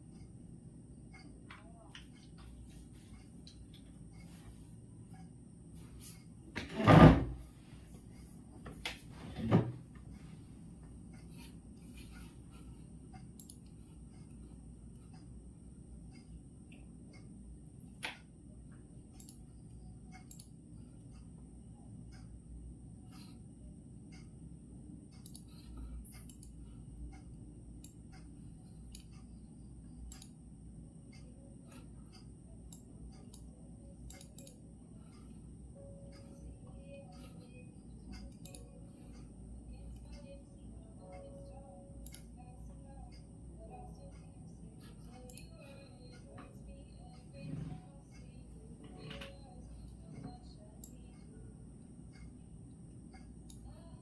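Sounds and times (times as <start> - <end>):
faint high steady tone: 10.1 - 54.0.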